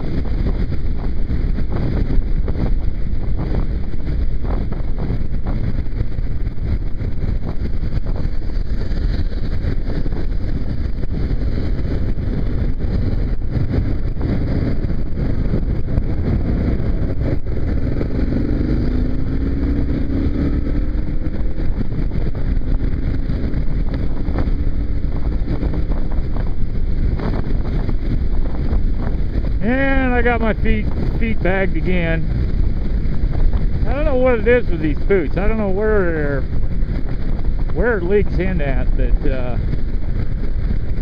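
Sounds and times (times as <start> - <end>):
motorcycle engine running: 0.0 - 41.0
road noise: 0.0 - 41.0
wind buffeting microphone: 0.0 - 41.0.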